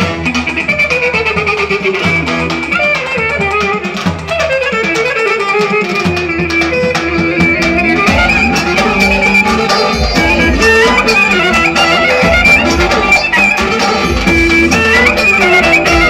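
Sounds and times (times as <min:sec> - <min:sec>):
lead melody: 0:00.0 - 0:16.0
steady drum beat: 0:00.0 - 0:16.0.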